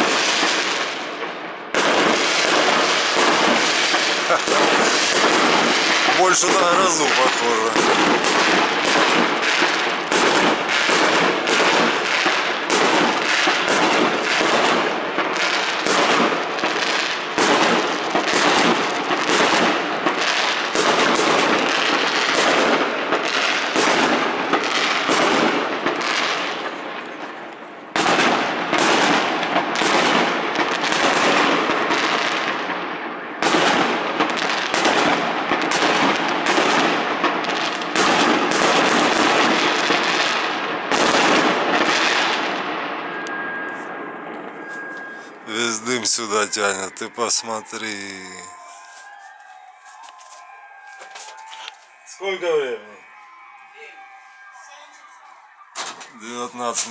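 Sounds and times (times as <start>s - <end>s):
fireworks bangs and booms: 0.0s - 56.9s.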